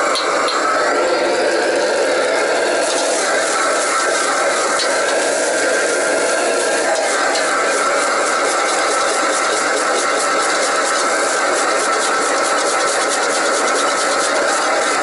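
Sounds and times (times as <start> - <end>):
burner running: 0.0 - 15.0
rice sizzling in wok: 2.6 - 15.0.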